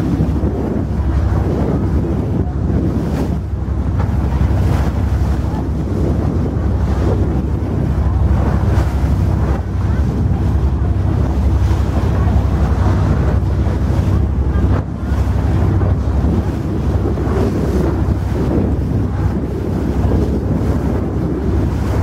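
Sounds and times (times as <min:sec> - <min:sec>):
low motor hum: 0:00.0 - 0:22.0
water rushing from bow wave: 0:00.0 - 0:22.0
wind buffeting microphone: 0:00.0 - 0:22.0.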